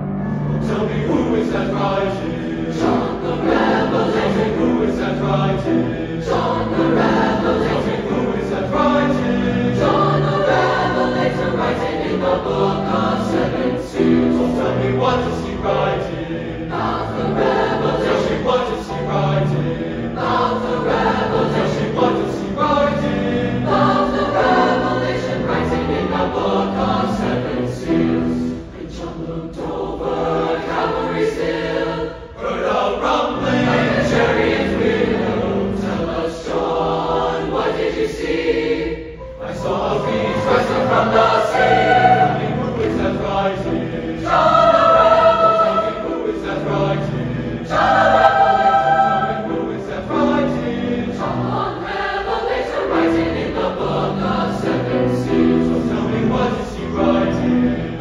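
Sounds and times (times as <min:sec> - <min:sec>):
choir singing gospel: 0:00.0 - 0:58.0.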